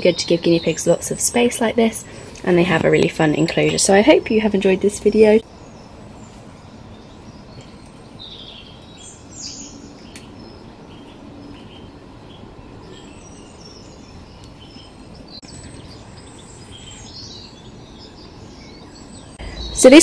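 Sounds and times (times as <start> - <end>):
small birds chirping: 0.0 - 20.0
steady low outdoor noise: 0.0 - 20.0.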